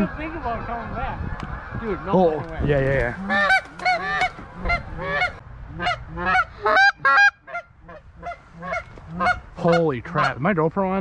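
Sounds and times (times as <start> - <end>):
geese honking: 0.0 - 10.6.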